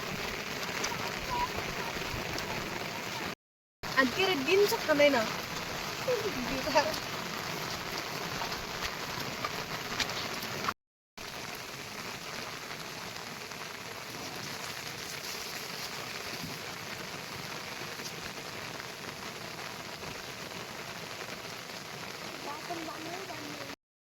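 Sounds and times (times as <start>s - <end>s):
steady rain falling: 0.0s - 23.8s.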